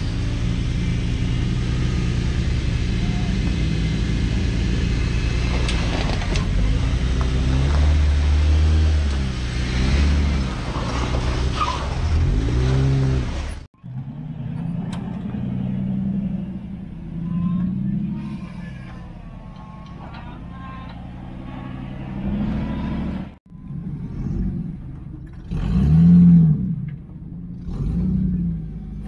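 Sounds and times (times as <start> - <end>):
engine revving under load: 0.0 - 20.2, 20.9 - 29.0.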